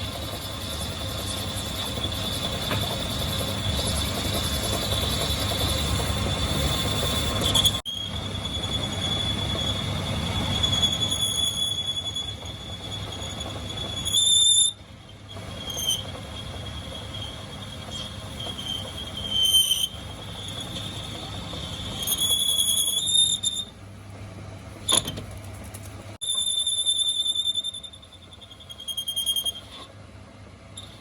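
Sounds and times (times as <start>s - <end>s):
tool cutting metal squealing: 0.0s - 23.8s, 24.8s - 25.2s, 26.2s - 30.0s, 30.8s - 31.0s.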